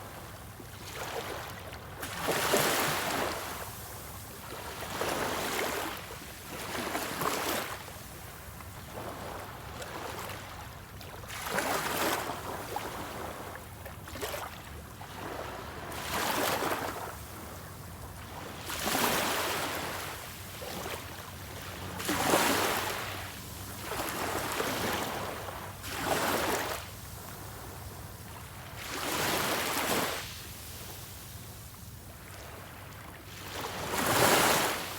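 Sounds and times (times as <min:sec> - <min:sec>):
sea waves breaking on shore: 0:00.0 - 0:34.9.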